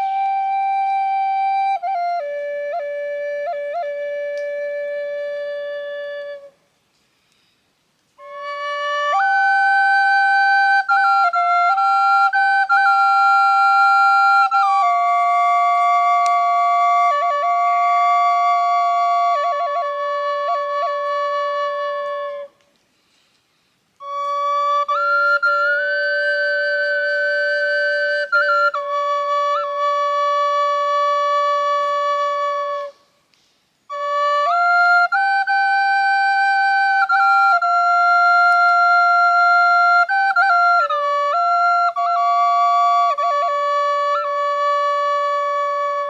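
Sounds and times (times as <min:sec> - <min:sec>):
flute playing slow melody: 0:00.0 - 0:46.0.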